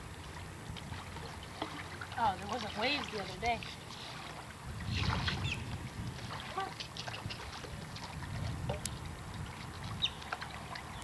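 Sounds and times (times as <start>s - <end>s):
small waves washing on shore: 0.0s - 11.0s.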